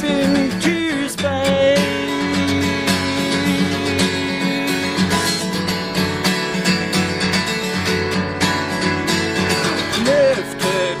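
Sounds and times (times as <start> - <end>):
instrumental acoustic guitar music: 0.0 - 11.0.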